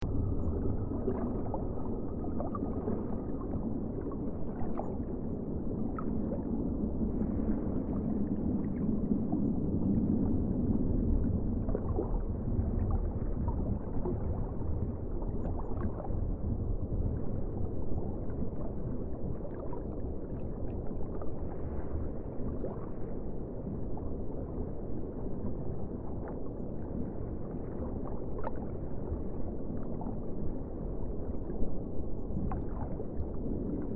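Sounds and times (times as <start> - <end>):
muffled underwater rumble: 0.0 - 33.9.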